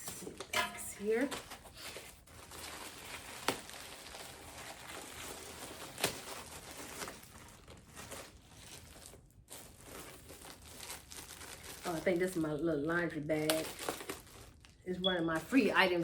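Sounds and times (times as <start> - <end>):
plastic packaging crinkling: 0.1 - 15.6.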